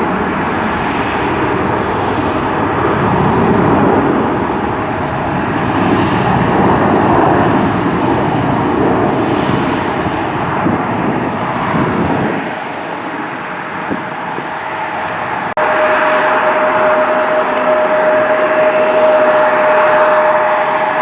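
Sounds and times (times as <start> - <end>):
airliner engine rumble: 0.0 - 21.0.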